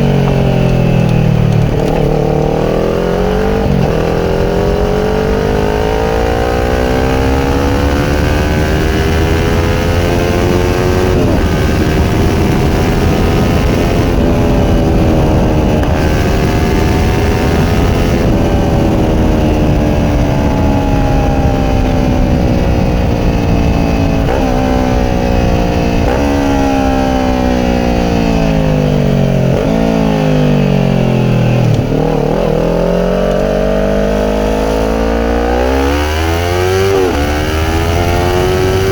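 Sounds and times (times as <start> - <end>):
motorcycle engine at speed: 0.0 - 38.9
wind rush: 0.0 - 38.9.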